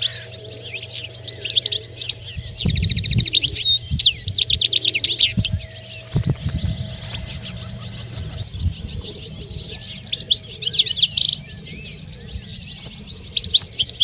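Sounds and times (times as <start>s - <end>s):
finches twittering and chirping: 0.0s - 14.0s.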